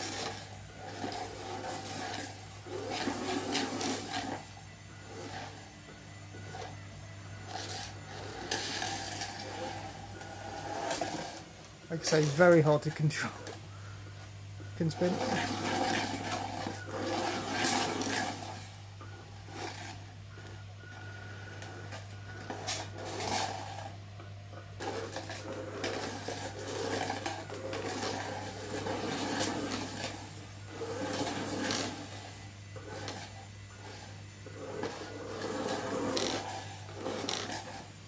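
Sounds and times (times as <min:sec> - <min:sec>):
plastic shell scraping on floor: 0:00.0 - 0:14.2, 0:14.8 - 0:38.0
small electric motors whirring: 0:00.0 - 0:24.0, 0:24.8 - 0:38.0.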